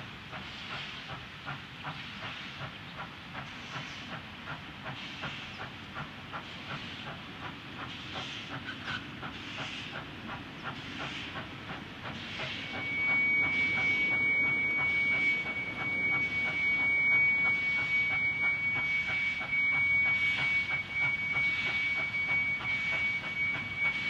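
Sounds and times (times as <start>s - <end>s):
steam hissing: 0.0s - 24.0s
steam locomotive exhaust beats: 0.0s - 24.0s.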